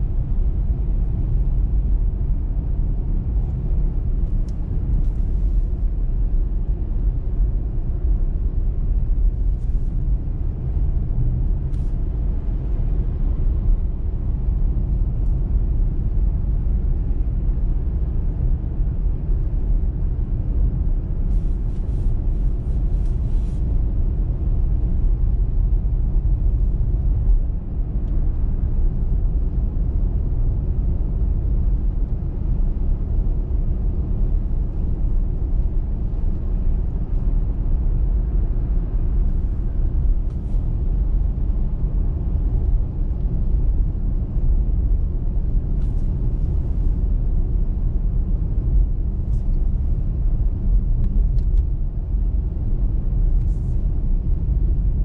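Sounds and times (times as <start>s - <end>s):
car road and tyre rumble: 0.0s - 55.0s.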